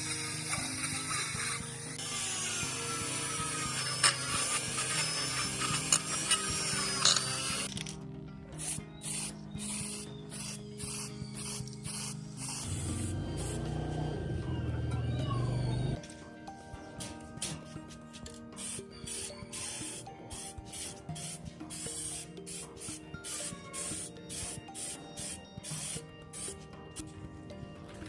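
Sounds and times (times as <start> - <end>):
faint background music: 0.0 - 28.0.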